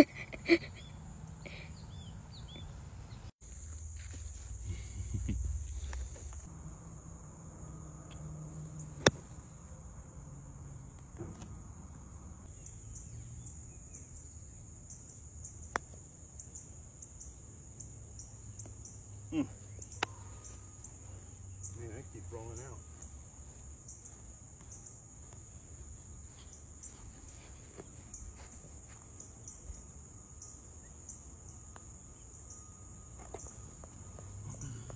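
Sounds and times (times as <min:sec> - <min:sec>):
insects chirping: 0:00.0 - 0:34.9.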